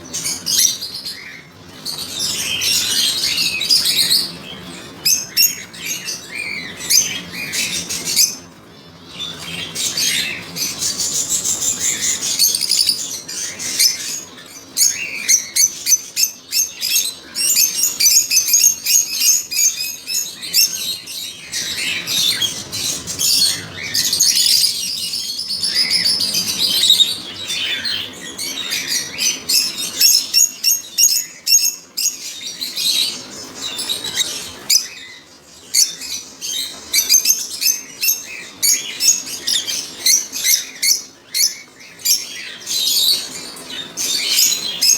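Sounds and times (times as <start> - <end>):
lovebirds chattering: 0.0 - 44.9.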